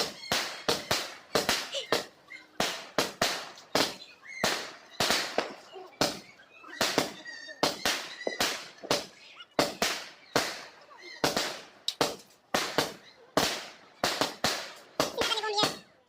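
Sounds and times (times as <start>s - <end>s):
firecrackers banging: 0.0s - 15.9s.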